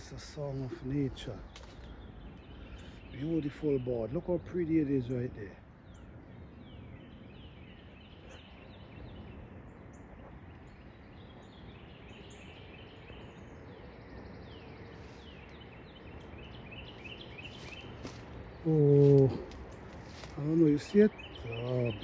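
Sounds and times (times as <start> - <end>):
birds chirping: 0.0 - 22.0
low background rush: 0.0 - 22.0.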